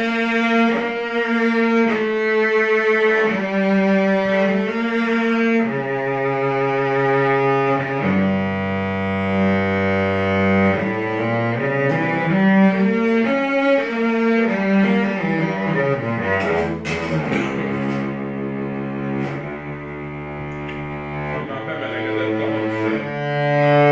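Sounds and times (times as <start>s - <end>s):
bowed cello melody: 0.0s - 23.9s.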